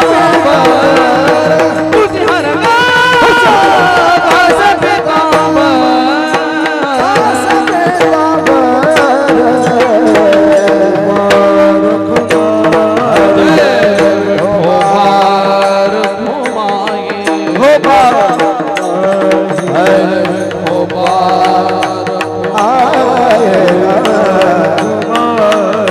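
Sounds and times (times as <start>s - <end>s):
percussion strokes: 0.0s - 25.9s
person singing: 0.0s - 25.9s.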